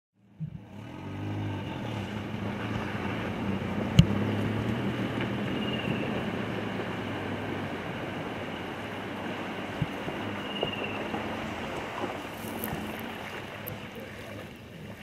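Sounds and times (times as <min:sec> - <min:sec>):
vehicle engine idling: 0:00.2 - 0:15.0
water: 0:00.2 - 0:15.0
wind: 0:00.2 - 0:15.0.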